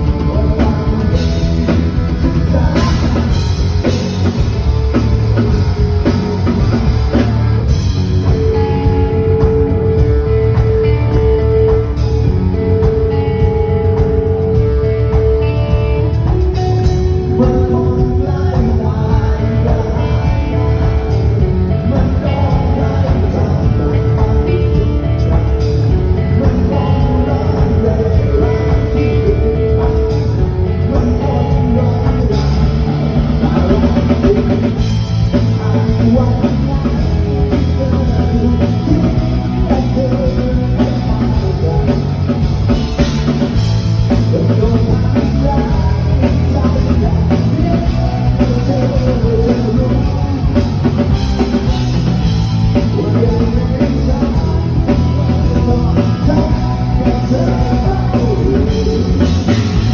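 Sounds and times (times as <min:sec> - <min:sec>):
drum kit steady beat: 0:00.0 - 0:59.9
rock band playing: 0:00.0 - 0:59.9.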